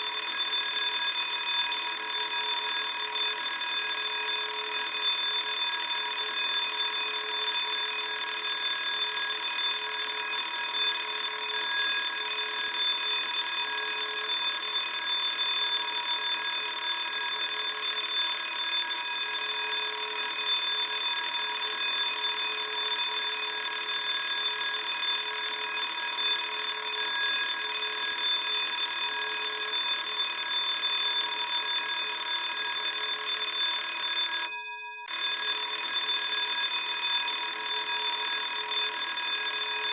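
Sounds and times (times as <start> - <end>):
electric school bell ringing: 0.0 - 39.9.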